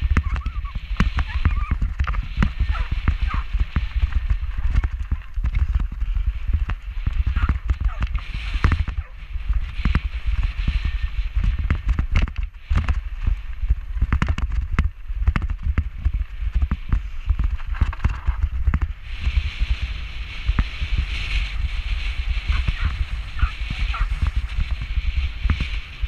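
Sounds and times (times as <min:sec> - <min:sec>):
bike rattling: 0:00.0 - 0:26.0
wind buffeting microphone: 0:00.0 - 0:26.0.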